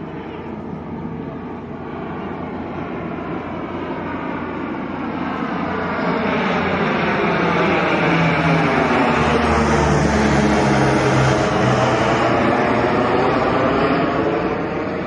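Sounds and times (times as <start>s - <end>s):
turboprop aircraft propeller drone: 0.0s - 15.0s.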